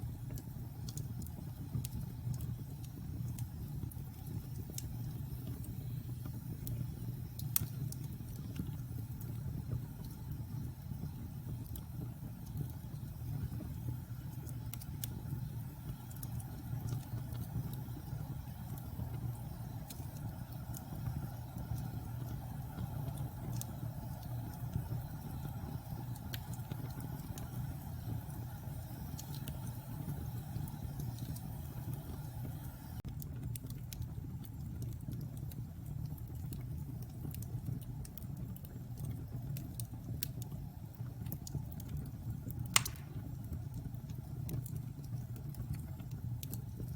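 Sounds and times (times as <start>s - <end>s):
wood fire crackling in a fireplace: 0.0s - 46.9s.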